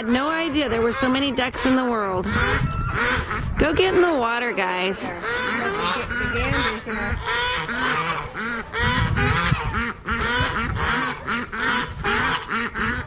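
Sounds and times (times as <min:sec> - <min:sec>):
ducks calling: 0:00.0 - 0:13.0
geese honking: 0:00.0 - 0:13.0.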